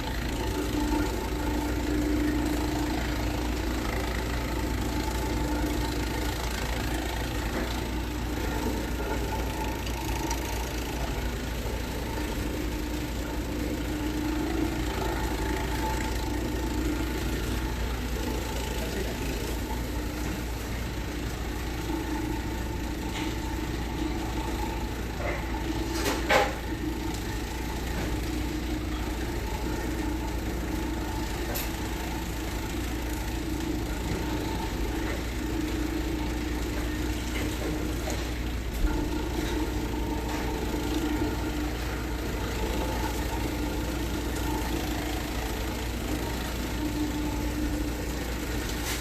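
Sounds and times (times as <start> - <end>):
slicing machine humming: 0.0 - 49.0.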